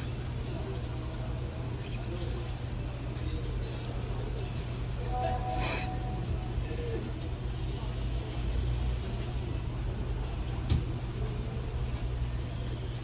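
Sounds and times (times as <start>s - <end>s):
low background rumble and hum: 0.0s - 13.0s.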